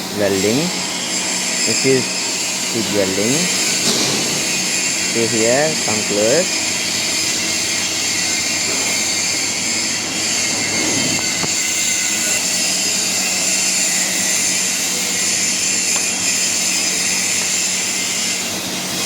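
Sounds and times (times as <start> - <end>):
welding arc hissing: 0.0 - 19.0.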